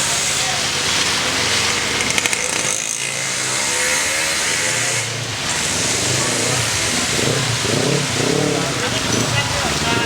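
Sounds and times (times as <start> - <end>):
cars and motorcycles passing: 0.0 - 10.0.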